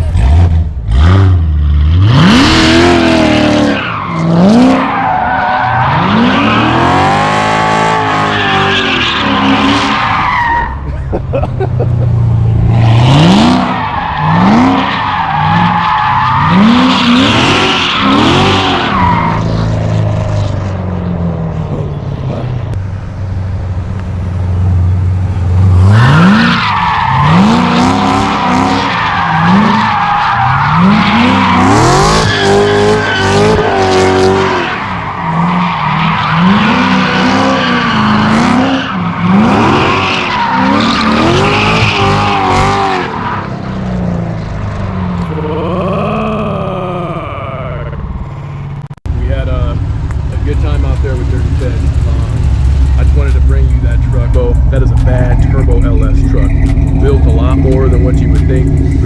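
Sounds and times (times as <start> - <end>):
truck engine accelerating hard: 0.0 - 59.0.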